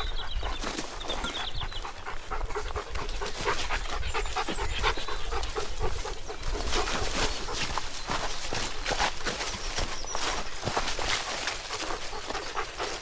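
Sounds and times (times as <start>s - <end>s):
bird chirping: 0.0s - 13.0s
dog panting: 0.0s - 13.0s.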